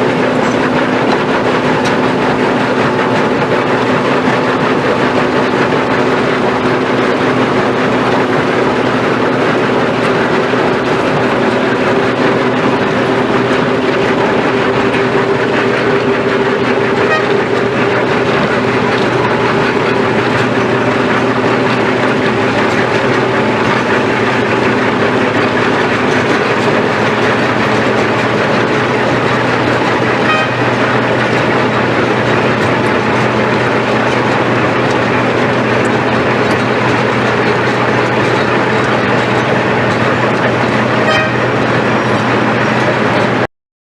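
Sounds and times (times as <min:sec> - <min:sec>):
milling machine grinding: 0:00.0 - 0:43.4
engine hum: 0:00.0 - 0:43.5.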